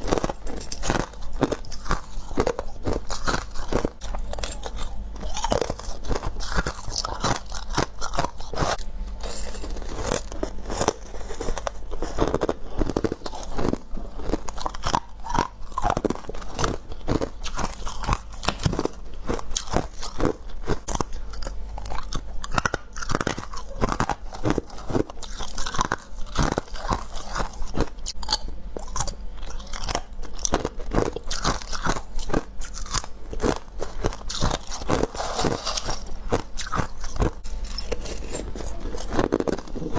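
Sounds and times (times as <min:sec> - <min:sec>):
chewing icy frost crunching: 0:00.0 - 0:39.9
steady low hum: 0:00.0 - 0:39.9.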